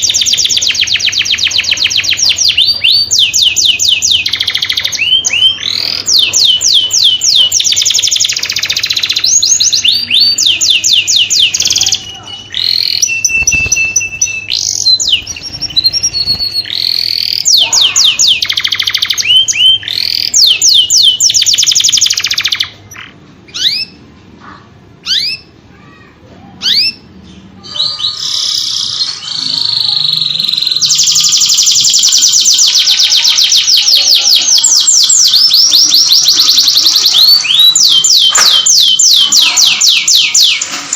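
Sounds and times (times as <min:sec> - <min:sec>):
canary singing fast trills: 0:00.0 - 0:24.1, 0:25.0 - 0:25.6, 0:26.6 - 0:40.6.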